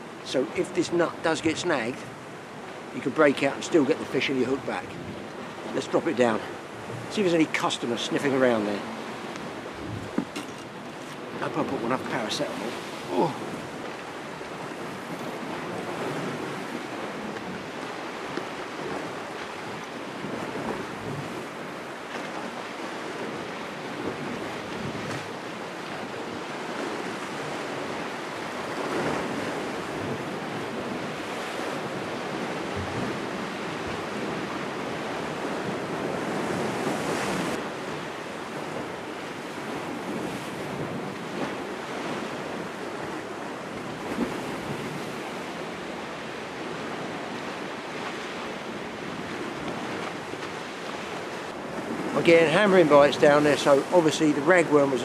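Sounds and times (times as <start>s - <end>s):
waves breaking on rocks: 0.0s - 55.0s
wind buffeting microphone: 6.4s - 53.9s.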